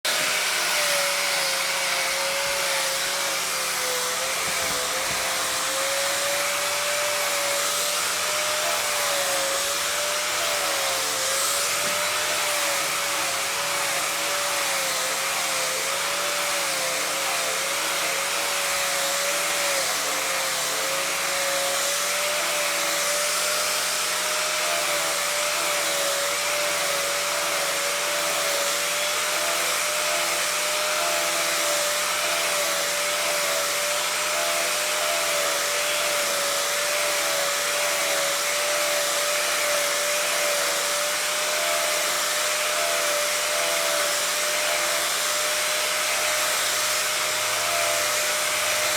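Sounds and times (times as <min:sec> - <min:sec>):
electric motor whining: 0:00.1 - 0:48.9.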